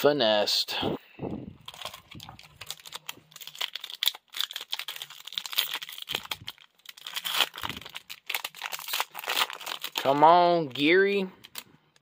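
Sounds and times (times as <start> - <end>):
foil wrapper crinkling: 1.6 - 12.0.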